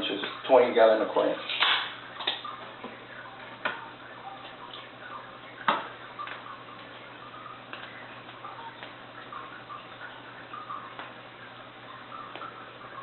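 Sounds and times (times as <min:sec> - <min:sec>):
low pump hum: 0:00.0 - 0:13.0
water trickling and bubbling: 0:00.0 - 0:13.0.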